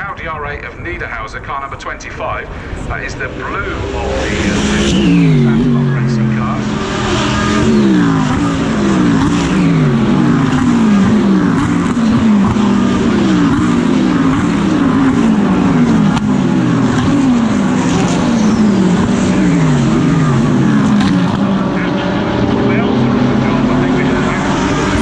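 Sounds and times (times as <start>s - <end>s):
race car engine at speed: 0.0s - 25.0s.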